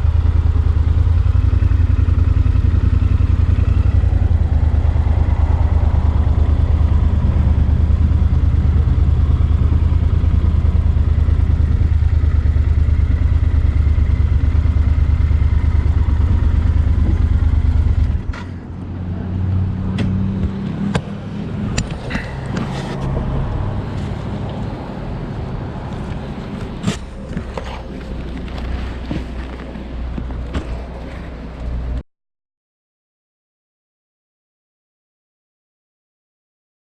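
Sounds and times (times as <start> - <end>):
motorcycle engine droning: 0.0 - 32.0.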